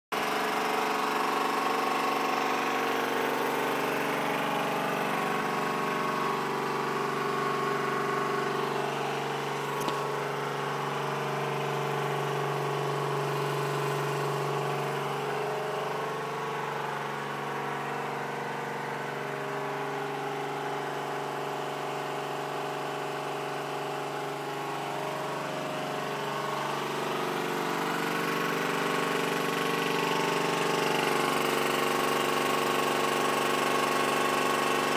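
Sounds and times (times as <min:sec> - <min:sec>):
engine idling: 0:00.1 - 0:34.9.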